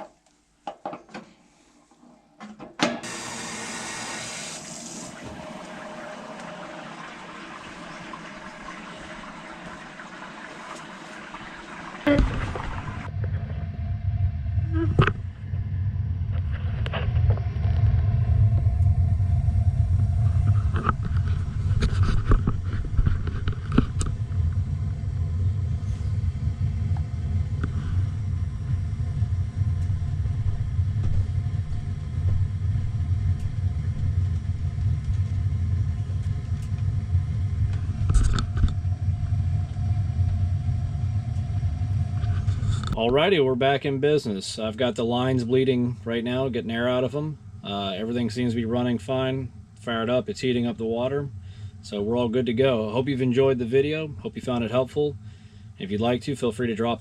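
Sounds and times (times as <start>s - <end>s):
gas burner rumble: 2.9s - 57.0s.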